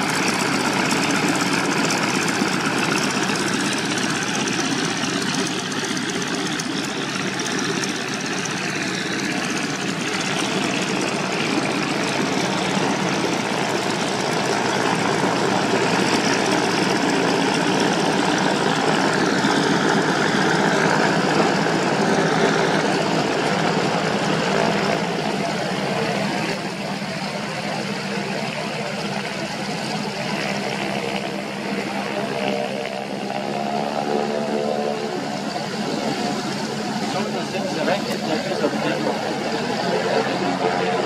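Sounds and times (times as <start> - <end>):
propeller aircraft engine running: 0.0 - 41.0.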